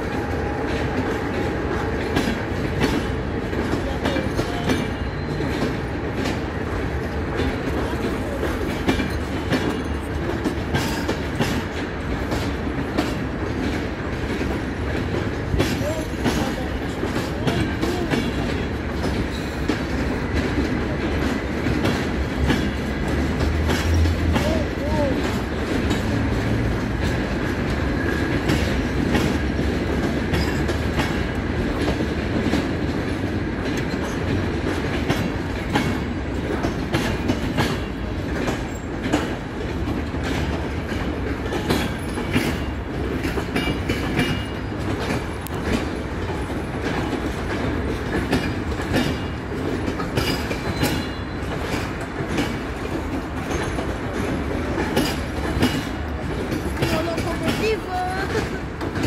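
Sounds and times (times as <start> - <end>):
train coaches rumbling past: 0.0 - 59.0
wheels clattering over rail joints: 0.0 - 59.0.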